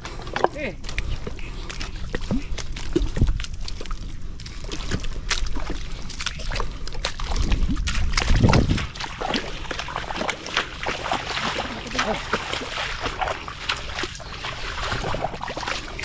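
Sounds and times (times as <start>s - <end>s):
footsteps squelching through mud: 0.0s - 16.0s
heavy low squelch: 0.0s - 16.0s.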